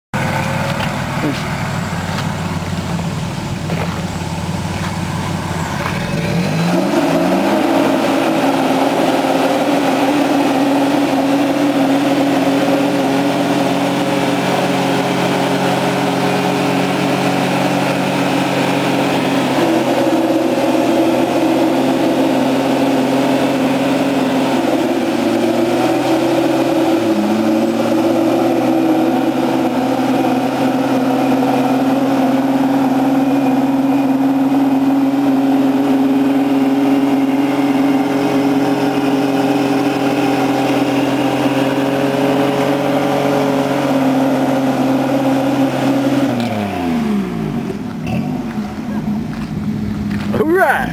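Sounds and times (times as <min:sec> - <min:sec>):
car engine idling and revving: 0:00.1 - 0:50.9
tyres spinning on pavement: 0:00.2 - 0:46.4.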